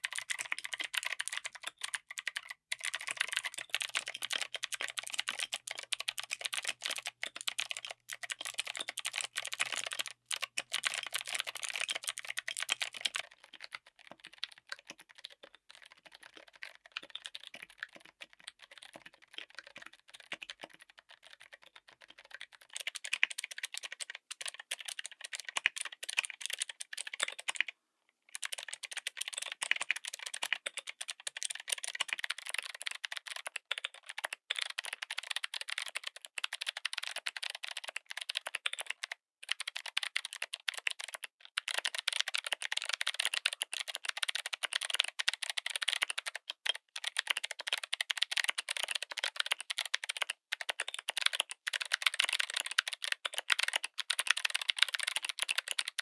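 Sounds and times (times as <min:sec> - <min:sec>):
fast typing on mechanical keyboard: 0:00.0 - 0:27.7, 0:28.3 - 0:56.0.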